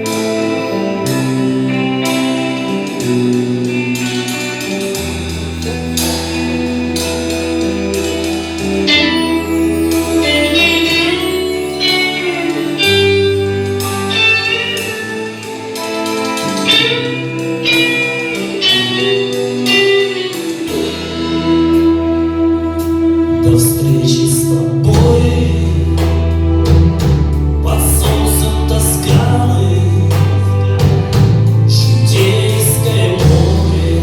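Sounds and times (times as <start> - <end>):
held bass notes: 0.0 - 34.0
plucked guitar melody: 0.0 - 34.0.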